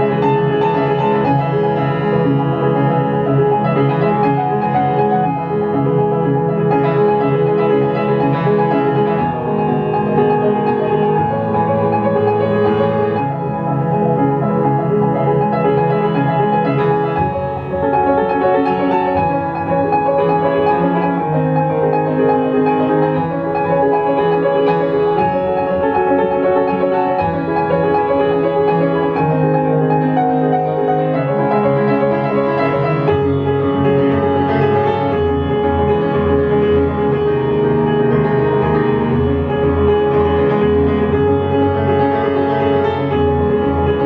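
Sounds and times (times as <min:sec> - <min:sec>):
solo grand piano chords: 0:00.0 - 0:44.0.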